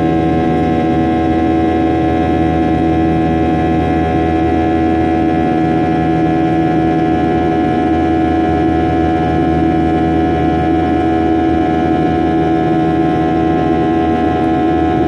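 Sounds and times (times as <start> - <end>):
jet engines droning in cabin: 0.0 - 15.0.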